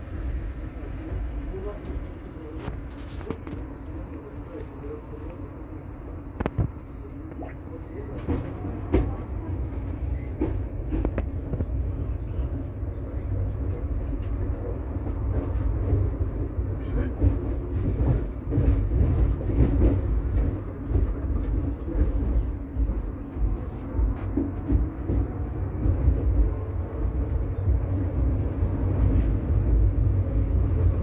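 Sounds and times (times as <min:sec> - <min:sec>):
tram wheels rumbling: 0:00.0 - 0:31.0.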